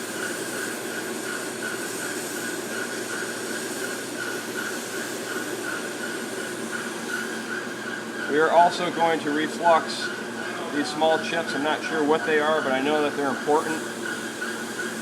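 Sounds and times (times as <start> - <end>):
hot air rushing from nozzle: 0.0 - 15.0.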